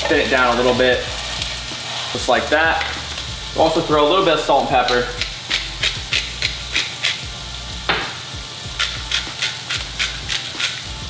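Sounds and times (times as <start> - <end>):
ground beef sizzling in a pan: 0.0 - 11.0.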